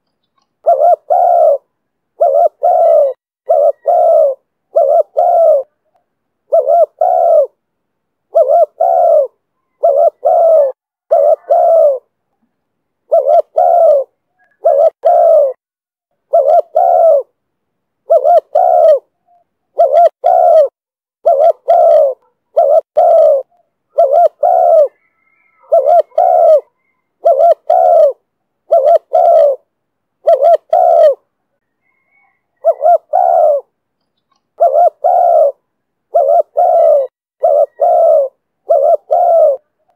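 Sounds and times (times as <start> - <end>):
dove cooing: 0.3 - 5.9, 6.5 - 7.6, 8.3 - 12.1, 13.1 - 15.6, 16.2 - 17.4, 18.0 - 39.9.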